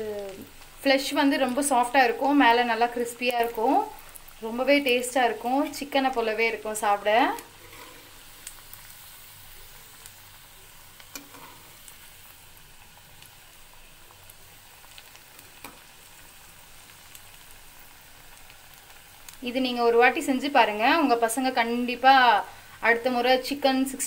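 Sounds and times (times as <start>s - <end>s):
oil sizzling while deep-frying: 0.0s - 24.0s.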